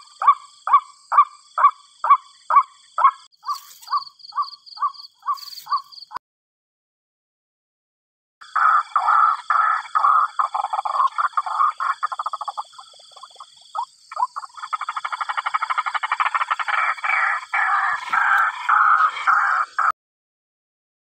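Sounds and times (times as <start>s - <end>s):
bird harsh repeated calls: 0.0s - 6.2s, 8.4s - 20.0s.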